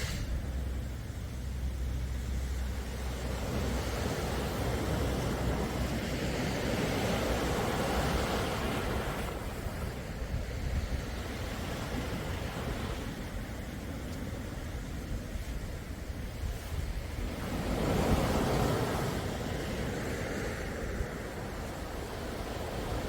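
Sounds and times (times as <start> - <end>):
calm sea waves washing ashore: 0.0 - 23.0.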